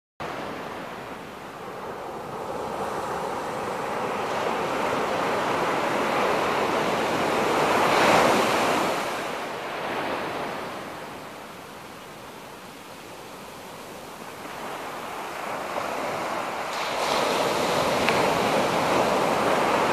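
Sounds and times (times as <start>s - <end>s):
waves breaking on beach: 0.2s - 19.9s.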